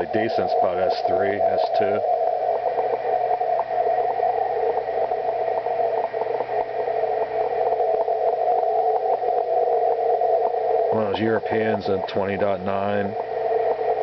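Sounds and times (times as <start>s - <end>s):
faint low hum: 0.0s - 14.0s
static clicks: 0.0s - 14.0s
warbling radio data signal: 0.0s - 14.0s.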